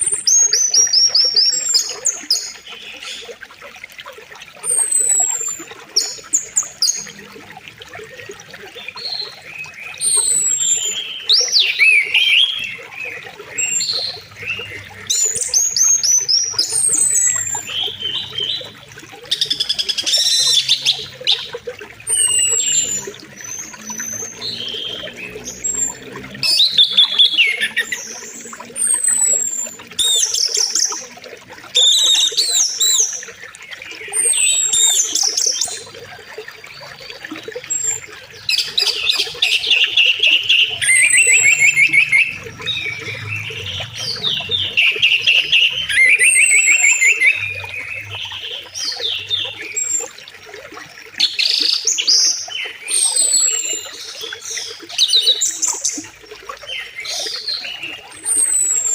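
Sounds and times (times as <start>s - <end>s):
river water flowing: 0.0s - 58.9s
songbirds singing: 0.0s - 58.9s.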